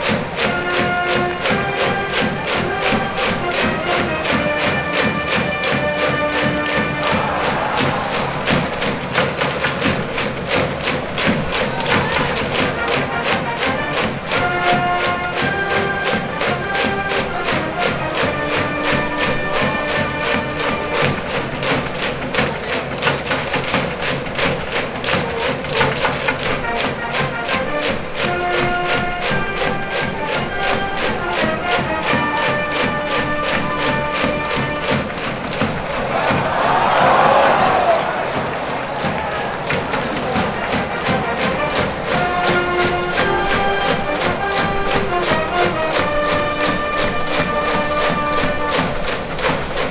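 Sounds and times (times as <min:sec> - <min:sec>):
brass melody: 0:00.0 - 0:49.9
driving drum beat: 0:00.0 - 0:49.9.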